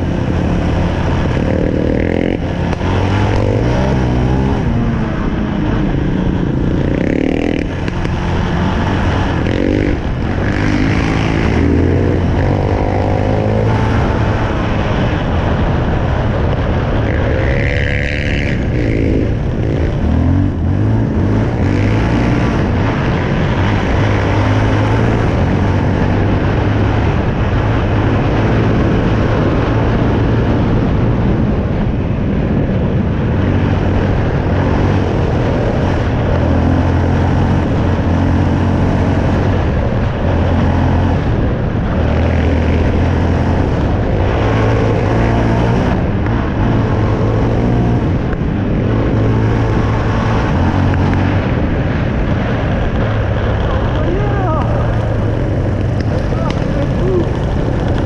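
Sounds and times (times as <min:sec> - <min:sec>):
quad engine revving: 0:00.0 - 0:15.7, 0:16.6 - 0:31.0, 0:33.5 - 0:52.2, 0:52.9 - 0:58.0
steady rush of noise: 0:00.0 - 0:58.0.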